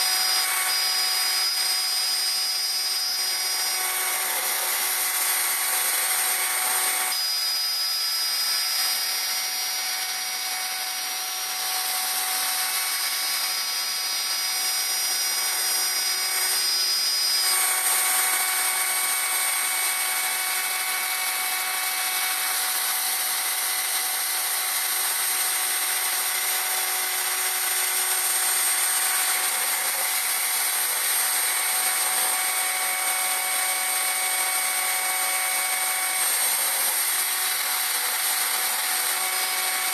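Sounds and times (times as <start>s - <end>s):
router cutting plywood: 0.0s - 39.9s.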